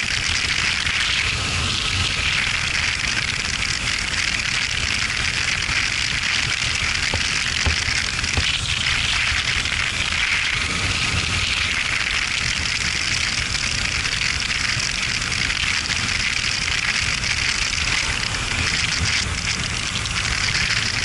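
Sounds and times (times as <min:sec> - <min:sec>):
motorcycle engine and road rumble: 0:00.0 - 0:21.0.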